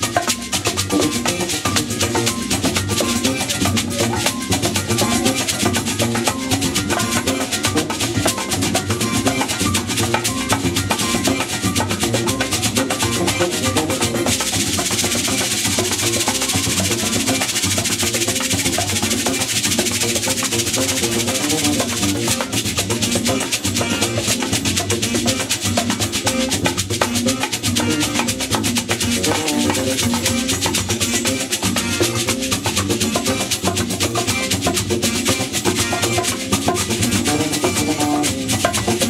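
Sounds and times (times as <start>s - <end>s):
bongo drumming: 0.0s - 39.0s
electric bass line: 0.0s - 39.0s
hissing percussion: 0.0s - 39.0s.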